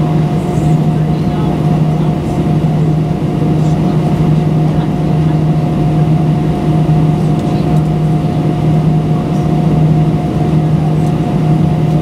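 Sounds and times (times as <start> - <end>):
aircraft engines humming in cabin: 0.0 - 12.0.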